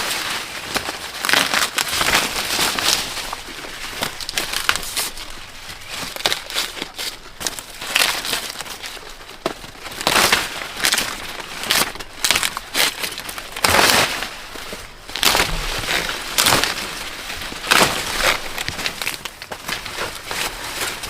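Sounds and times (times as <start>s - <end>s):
dry corn plants rustling: 0.0s - 21.0s.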